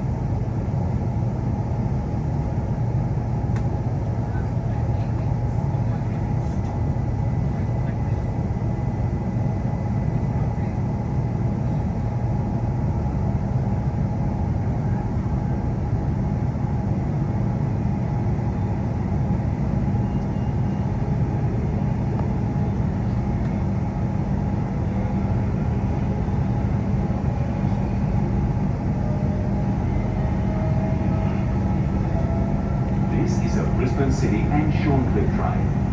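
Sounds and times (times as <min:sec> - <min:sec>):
train wheels rumbling on track: 0:00.0 - 0:35.9.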